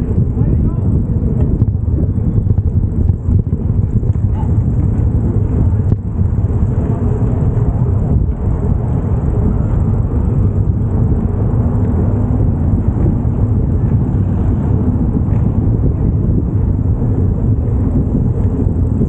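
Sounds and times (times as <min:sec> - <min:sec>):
city traffic noise: 0:00.0 - 0:19.0
wind buffeting microphone: 0:00.0 - 0:19.0.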